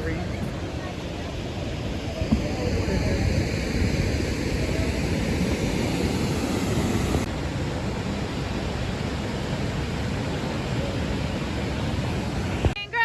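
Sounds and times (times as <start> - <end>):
rushing water: 0.0 - 13.0
wind: 0.0 - 13.0.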